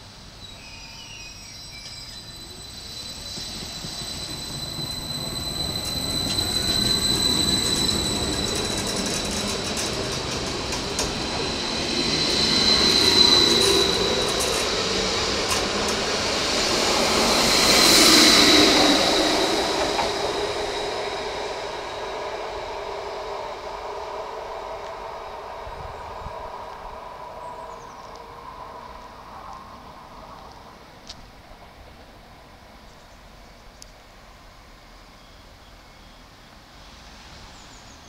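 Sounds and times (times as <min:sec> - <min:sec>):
train wheels rumbling on rails: 0:01.5 - 0:32.5.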